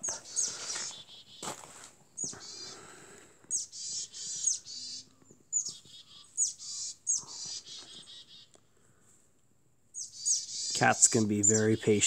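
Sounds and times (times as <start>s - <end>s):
songbirds singing with trills: 0.0s - 8.8s, 9.9s - 12.0s.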